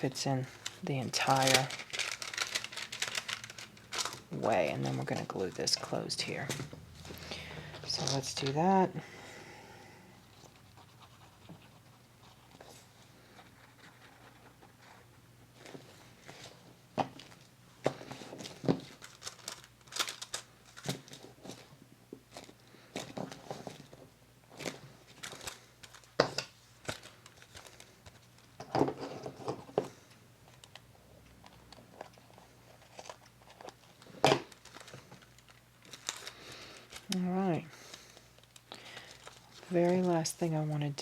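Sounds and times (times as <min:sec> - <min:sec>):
paper crinkling and rustling: 0:00.0 - 0:08.8, 0:10.3 - 0:41.0.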